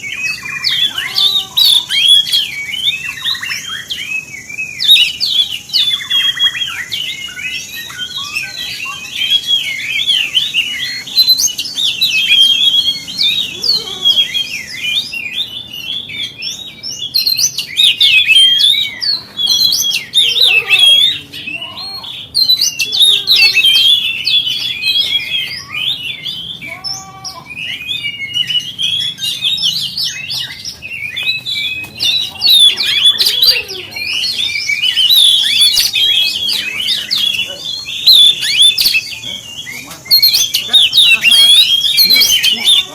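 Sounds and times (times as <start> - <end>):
songbird singing varied whistles: 0.0 - 42.9.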